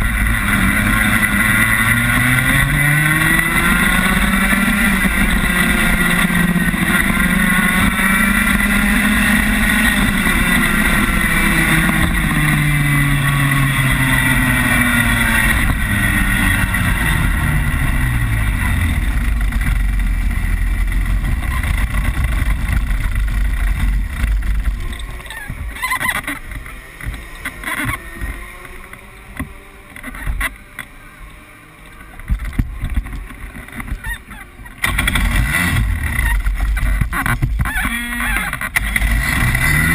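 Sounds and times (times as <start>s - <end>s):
kart engine slowing: 0.0s - 39.9s.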